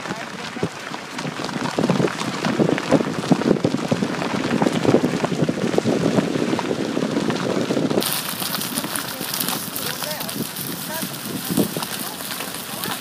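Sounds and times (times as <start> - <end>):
tyres crunching on dirt road: 0.0 - 13.0
wind hiss: 1.7 - 13.0.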